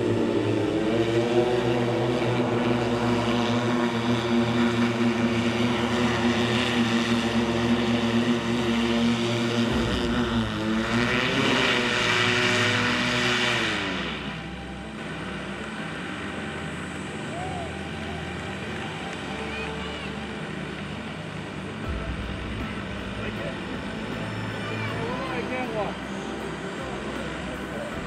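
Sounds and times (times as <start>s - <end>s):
electric propellers droning: 0.0s - 28.0s.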